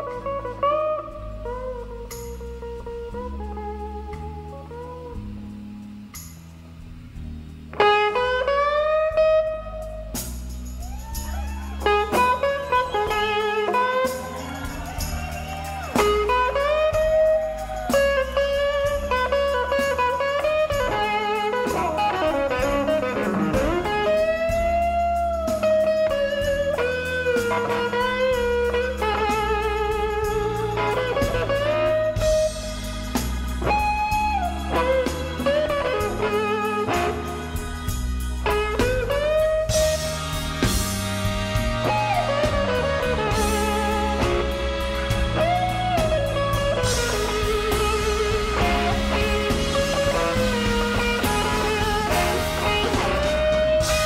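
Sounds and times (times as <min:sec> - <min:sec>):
blues guitar bending notes: 0:00.0 - 0:54.0
stepped bass line: 0:00.0 - 0:54.0.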